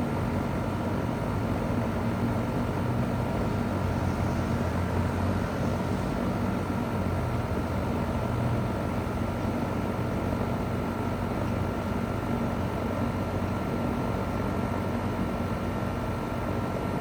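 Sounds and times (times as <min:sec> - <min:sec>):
compressor humming: 0:00.0 - 0:17.0
condenser fan rushing: 0:00.0 - 0:17.0.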